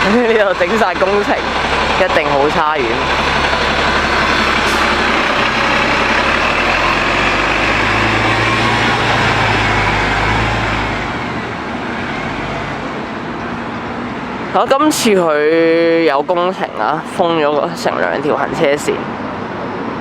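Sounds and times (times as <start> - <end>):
heavy vehicle engine running: 0.0 - 18.5
road traffic: 0.0 - 20.0.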